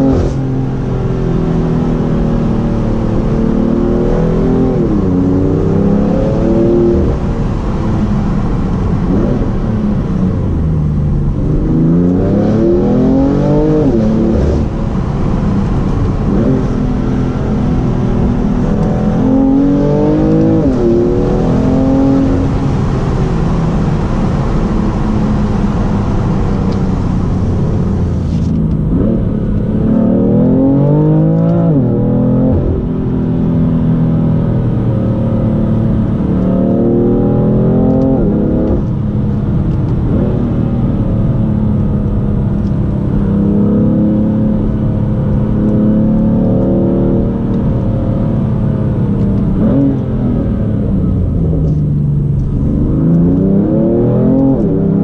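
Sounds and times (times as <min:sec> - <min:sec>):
car engine revving while driving: 0:00.0 - 0:55.0.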